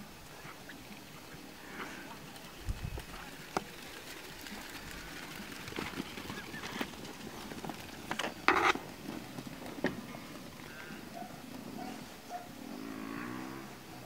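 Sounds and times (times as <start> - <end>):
hooves and paws pattering on dirt: 0.2 - 12.8.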